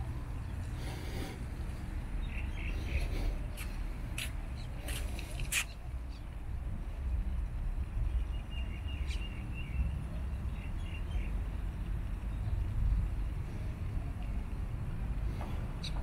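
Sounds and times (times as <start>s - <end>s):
wind rumble on microphone: 1.6s - 16.0s.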